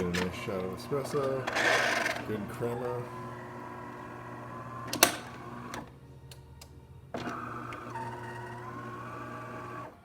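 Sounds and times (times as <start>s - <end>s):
espresso machine motor humming: 0.0s - 5.7s, 7.3s - 9.9s.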